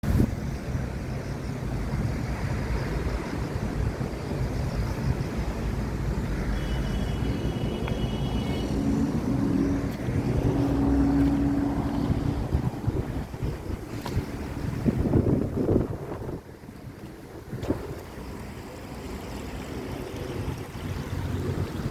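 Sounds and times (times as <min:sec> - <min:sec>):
wind on microphone: 0:00.0 - 0:18.4
low engine hum: 0:00.0 - 0:21.9.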